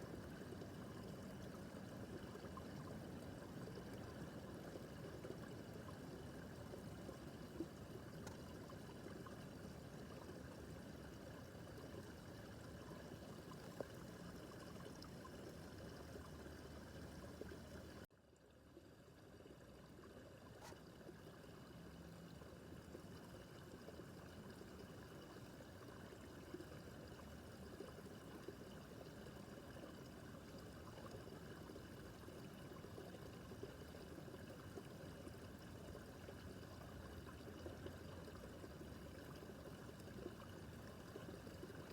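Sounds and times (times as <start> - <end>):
brook babbling over stones: 0.0 - 41.9.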